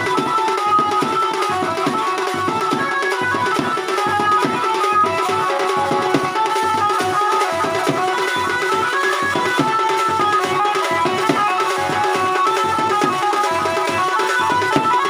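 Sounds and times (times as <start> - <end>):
bright melody of held notes: 0.0 - 15.0
fast drum beat: 0.0 - 15.0.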